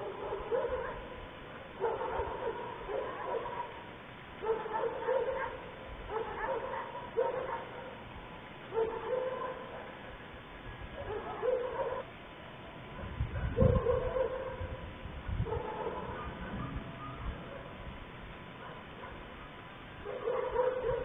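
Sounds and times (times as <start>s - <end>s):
dog barking and yipping: 0.0s - 8.0s, 8.7s - 10.1s, 10.9s - 12.1s, 13.0s - 14.8s, 15.4s - 17.8s, 18.6s - 21.0s.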